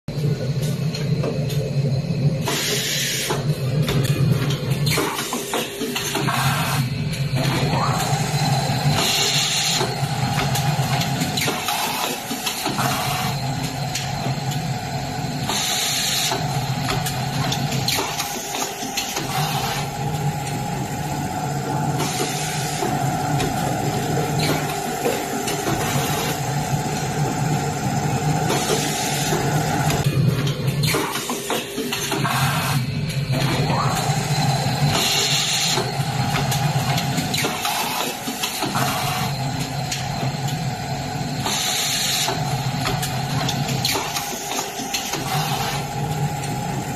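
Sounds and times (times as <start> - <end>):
packaging machine humming: 0.1 - 46.9.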